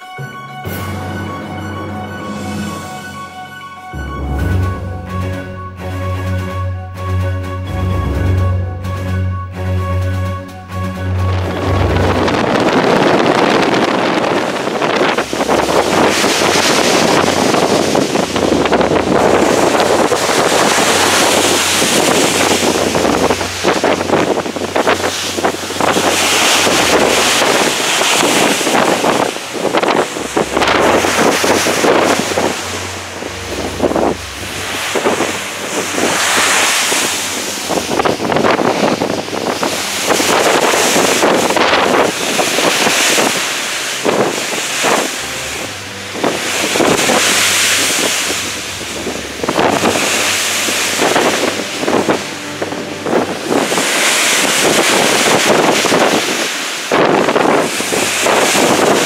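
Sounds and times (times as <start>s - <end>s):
white water rushing along ship: 0.0s - 59.0s
wind buffeting microphone: 10.8s - 59.0s.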